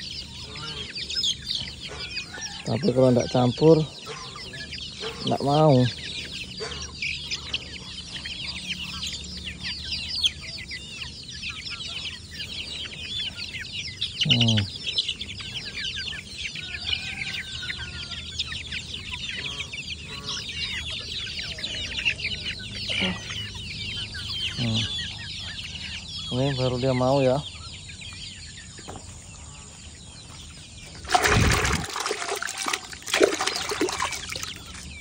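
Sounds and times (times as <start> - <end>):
chicks peeping and clucking: 0.0 - 35.0.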